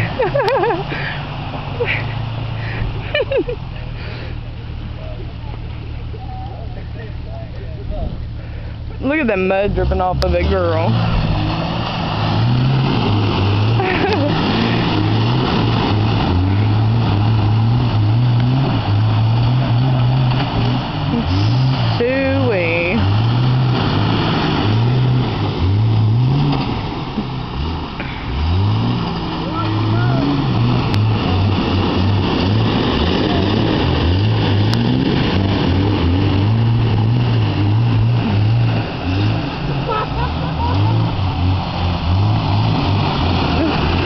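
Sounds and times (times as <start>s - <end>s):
off-road car engine revving: 0.0s - 44.0s
spinning tyres and flung mud: 0.0s - 44.0s.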